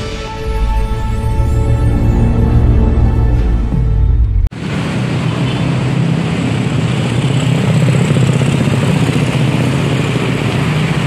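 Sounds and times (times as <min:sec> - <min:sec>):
street traffic engine rumble: 0:00.1 - 0:11.0.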